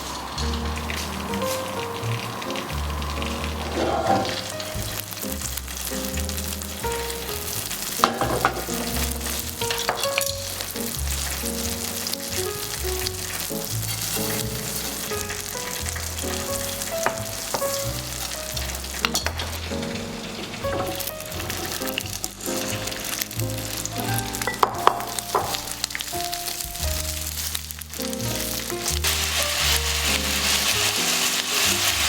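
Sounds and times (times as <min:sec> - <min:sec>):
food sizzling in a pan: 0:00.0 - 0:32.0
soft background music: 0:00.0 - 0:32.0.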